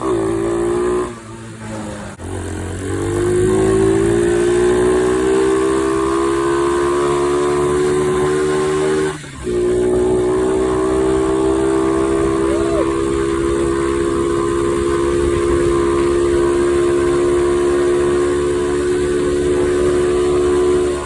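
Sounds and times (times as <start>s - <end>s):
small motorcycle engine revving high: 0.0s - 21.0s.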